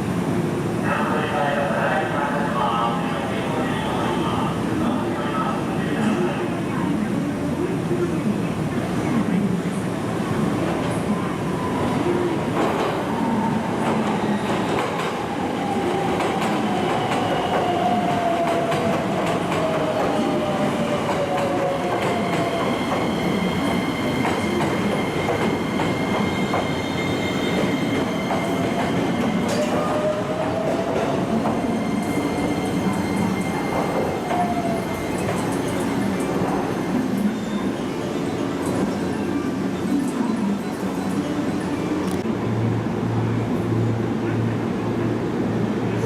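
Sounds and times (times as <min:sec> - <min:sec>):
train rumbling and wheel clatter: 0:00.0 - 0:46.0.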